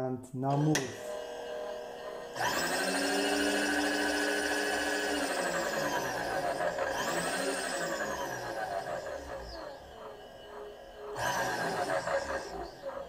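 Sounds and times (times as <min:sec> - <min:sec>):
electric motor whining: 0:00.5 - 0:13.0.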